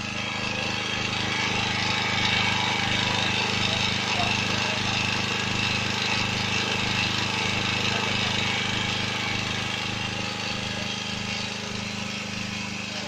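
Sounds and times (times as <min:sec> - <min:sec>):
portable generator engine running: 0:00.0 - 0:13.0.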